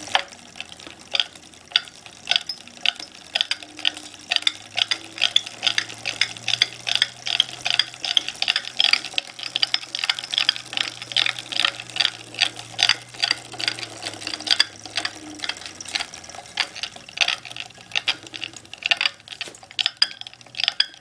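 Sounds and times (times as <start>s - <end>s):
bike drivetrain clicking: 0.0s - 21.0s.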